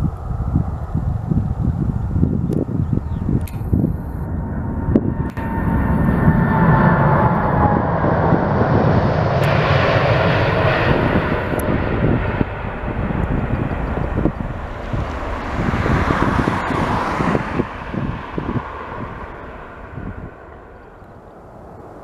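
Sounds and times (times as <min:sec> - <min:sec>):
jet engine whine: 0:00.0 - 0:22.0
jet engines at takeoff: 0:00.0 - 0:22.0.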